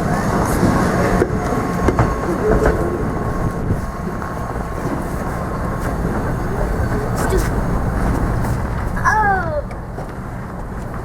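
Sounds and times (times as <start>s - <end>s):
train rumbling on rails: 0.0s - 11.0s
train wheels clicking: 0.0s - 11.0s.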